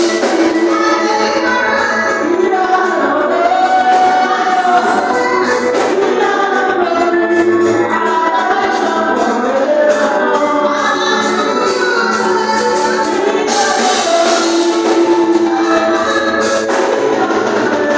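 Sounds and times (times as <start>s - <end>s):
gospel choir singing: 0.0s - 17.9s.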